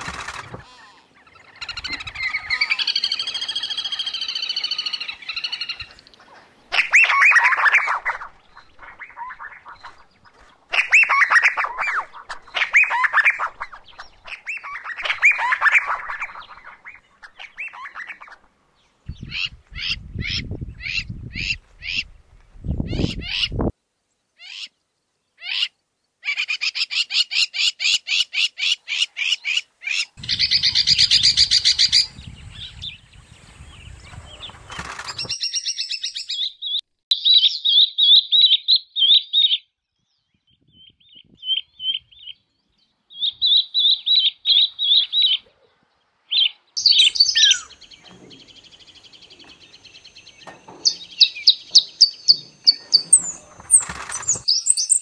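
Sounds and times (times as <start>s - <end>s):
birds chattering and warbling: 0.0s - 23.6s, 24.4s - 55.0s.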